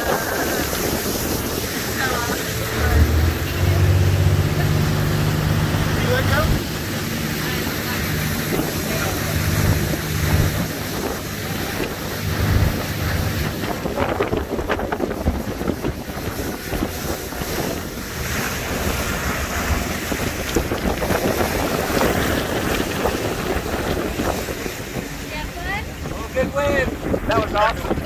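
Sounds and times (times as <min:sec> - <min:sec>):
motorboat engine running: 0:00.0 - 0:28.0
water rushing and spray: 0:00.0 - 0:28.0
wind buffeting microphone: 0:00.0 - 0:28.0.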